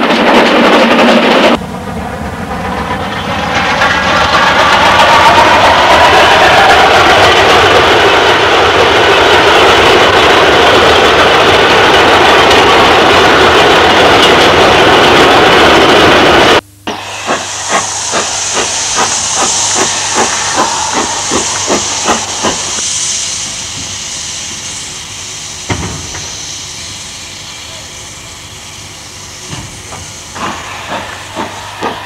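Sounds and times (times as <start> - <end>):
loud steady rushing noise: 0.0 - 24.4, 29.5 - 32.0
steam locomotive exhaust beats: 0.0 - 32.0
steam hissing: 2.7 - 32.0.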